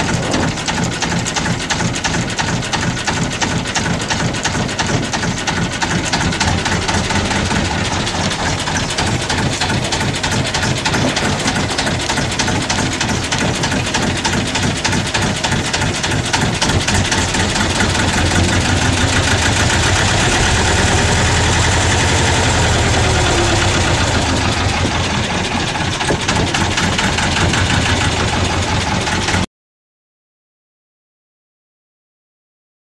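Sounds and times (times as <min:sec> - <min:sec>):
boat engine running: 0:00.0 - 0:29.5.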